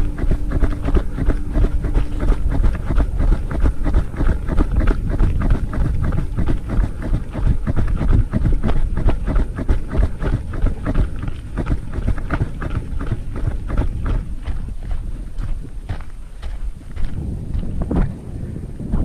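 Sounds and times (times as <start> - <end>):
gravel crunching: 0.0 - 19.0
wind rumbling on microphone: 0.0 - 19.0.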